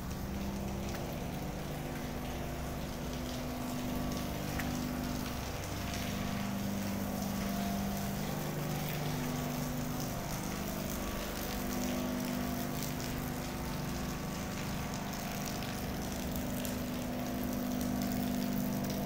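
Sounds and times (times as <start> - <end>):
low machinery drone: 0.0 - 19.0.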